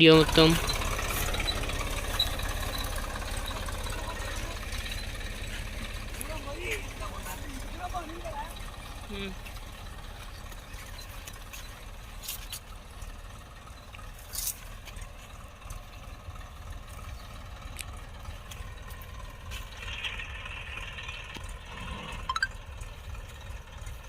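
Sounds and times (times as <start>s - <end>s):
tractor engine rumbling: 0.0s - 24.0s.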